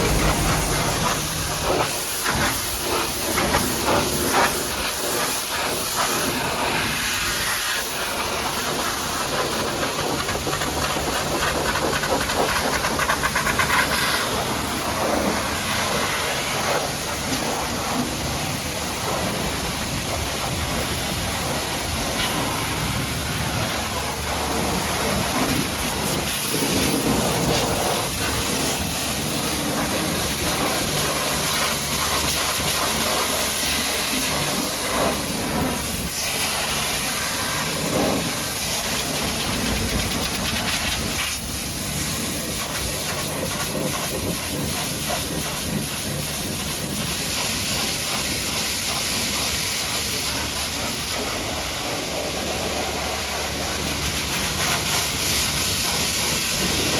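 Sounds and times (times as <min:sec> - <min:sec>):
pressure washer spraying water: 0:00.0 - 0:56.9.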